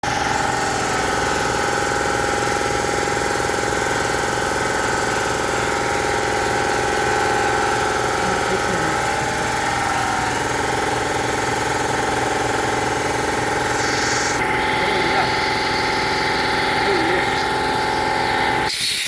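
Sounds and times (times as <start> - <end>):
motor running steadily: 0.0 - 19.0.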